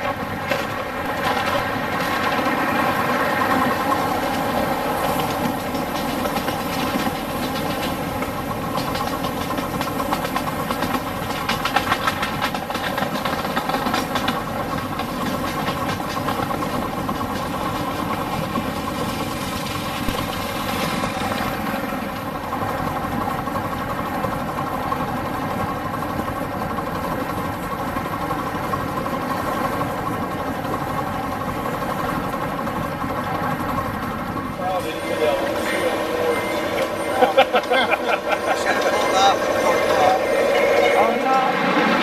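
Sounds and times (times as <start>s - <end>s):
miniature train engine hum: 0.0s - 42.0s
wheels clicking over rails: 0.0s - 42.0s.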